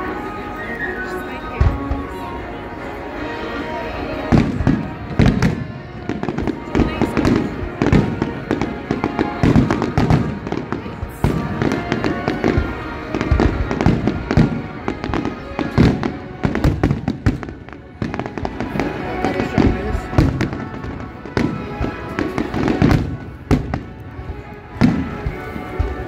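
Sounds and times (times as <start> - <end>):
fireworks bursting: 4.2 - 26.0.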